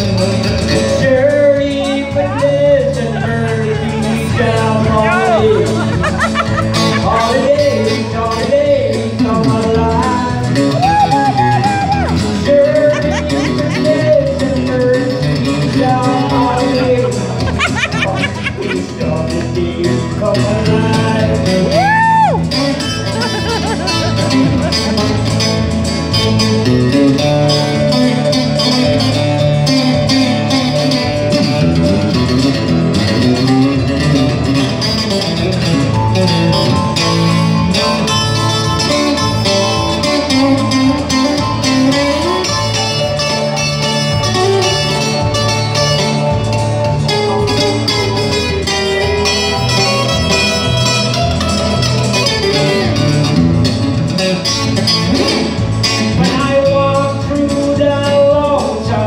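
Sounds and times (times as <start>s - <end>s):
electric guitar picking a melody: 0.0s - 59.0s
electronic keyboard backing: 0.0s - 59.0s.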